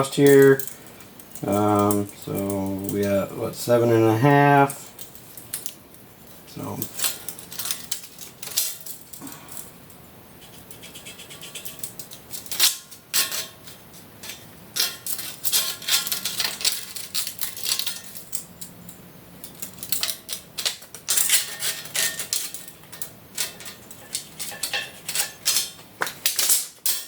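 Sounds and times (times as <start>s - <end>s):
metal parts and tools clinking: 0.0s - 10.0s, 11.5s - 27.0s.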